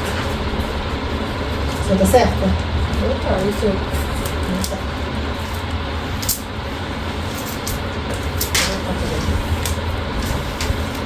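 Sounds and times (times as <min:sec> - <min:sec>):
squeegee scraping over vinyl film: 0:00.0 - 0:11.0
steady low hum: 0:00.0 - 0:11.0.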